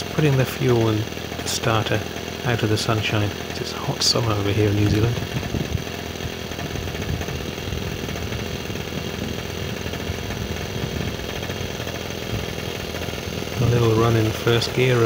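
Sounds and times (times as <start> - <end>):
model engine idling: 0.0 - 15.0.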